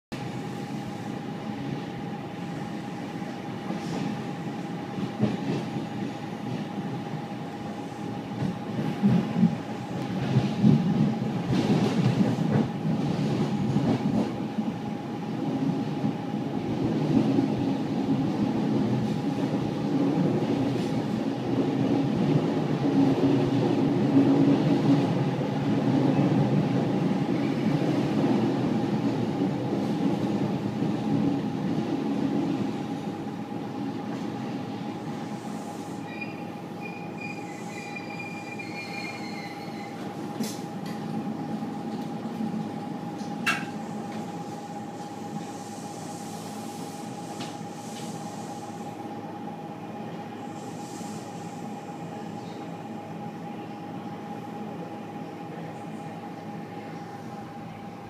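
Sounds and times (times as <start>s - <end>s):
train rumble inside carriage: 0.1s - 58.0s.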